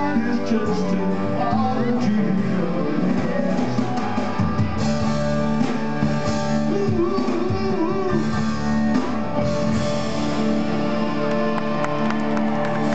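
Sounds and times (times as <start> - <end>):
electric guitar: 0.0 - 12.9
live rock band playing: 0.0 - 12.9.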